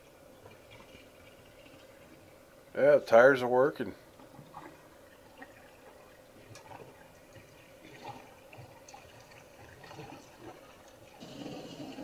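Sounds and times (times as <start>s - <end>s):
water drips: 0.0s - 2.8s, 4.1s - 12.0s
faint trickling water: 0.0s - 12.0s.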